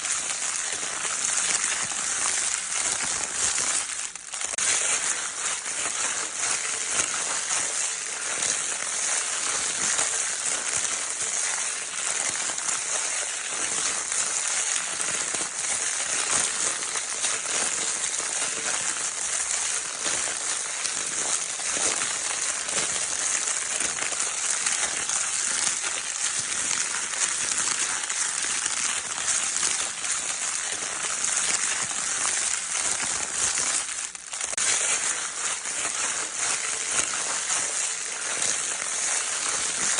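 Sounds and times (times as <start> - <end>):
crinkle toy paper crinkling: 0.0 - 39.9.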